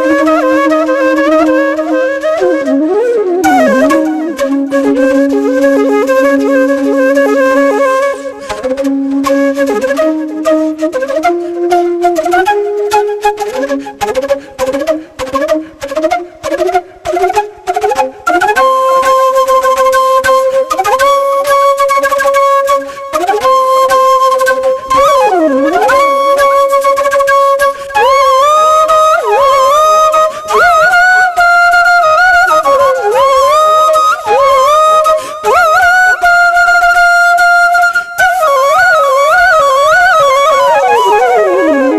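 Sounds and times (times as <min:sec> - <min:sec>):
solo flute melody: 0:00.0 - 0:41.9.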